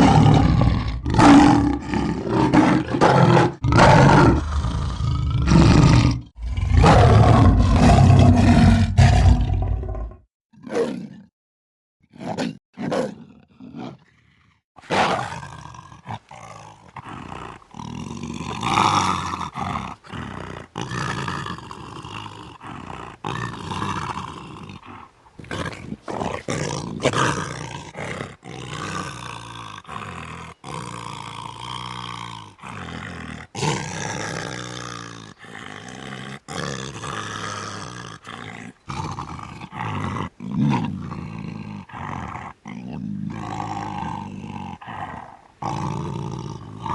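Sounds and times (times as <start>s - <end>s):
dogs growling and snarling: 0.0s - 11.3s, 12.2s - 46.9s.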